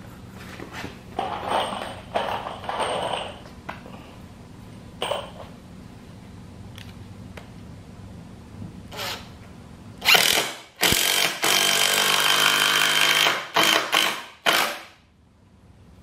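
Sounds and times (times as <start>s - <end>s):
low steady hum: 0.0s - 13.3s, 15.0s - 16.0s.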